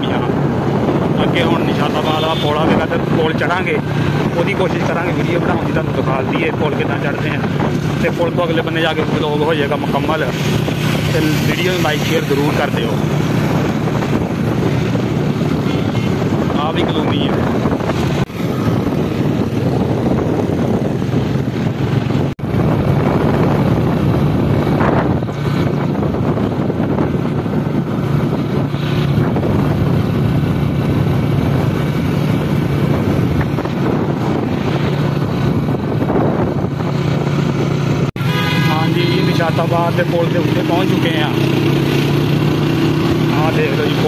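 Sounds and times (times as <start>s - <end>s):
wind on microphone: 0.0s - 38.8s
road noise: 0.0s - 44.0s
vehicle engine hum: 0.0s - 44.0s.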